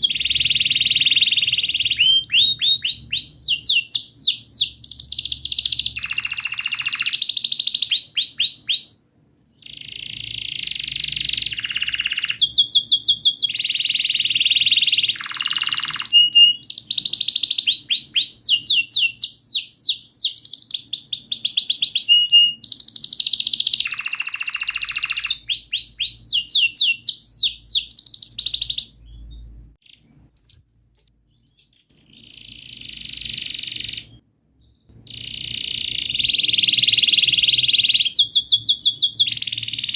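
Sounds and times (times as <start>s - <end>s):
canary singing trills and chirps: 0.0s - 39.9s.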